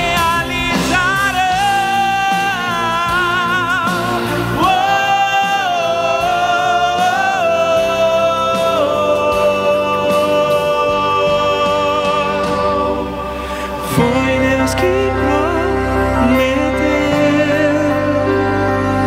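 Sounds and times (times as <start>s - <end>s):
instrumental accompaniment: 0.0s - 19.0s
man singing gospel: 0.0s - 19.0s.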